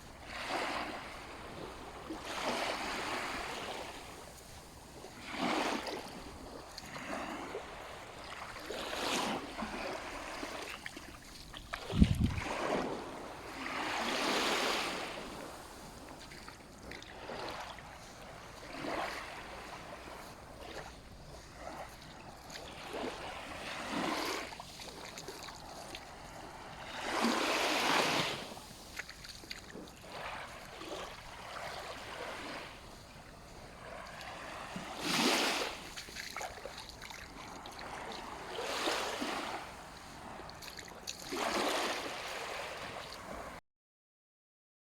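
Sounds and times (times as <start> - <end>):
sea waves breaking on shore: 0.0 - 43.6.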